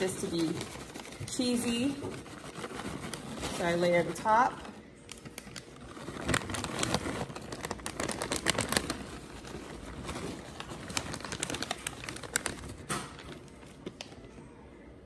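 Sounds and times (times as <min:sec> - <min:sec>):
plastic bag crinkling: 0:00.0 - 0:14.3.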